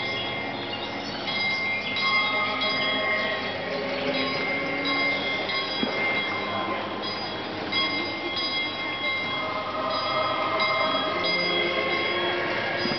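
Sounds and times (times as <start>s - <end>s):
thin high tones: 0.0s - 12.9s.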